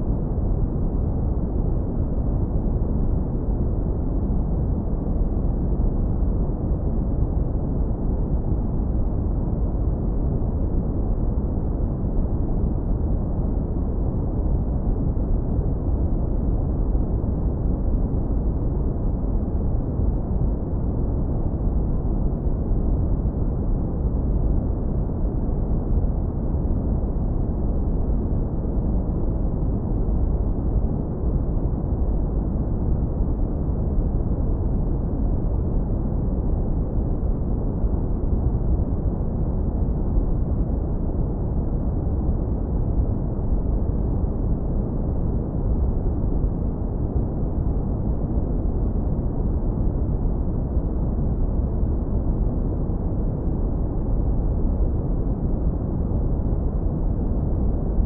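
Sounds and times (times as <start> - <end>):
deep brown noise rumble: 0.0 - 58.0.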